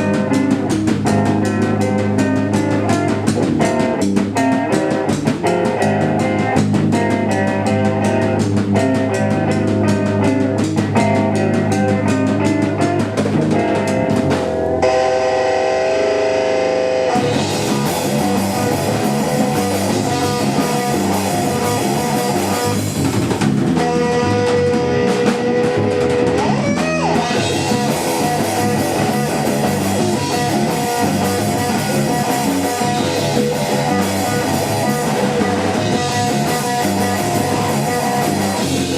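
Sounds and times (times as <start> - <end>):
electric guitar ringing: 0.0 - 38.9
rock band playing live: 0.0 - 38.9.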